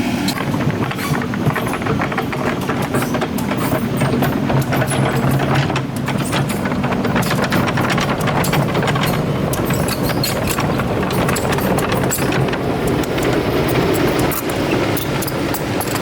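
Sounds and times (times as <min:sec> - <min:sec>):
excavator diesel engine running: 0:00.0 - 0:16.0
metallic clanks and knocks: 0:00.3 - 0:16.0.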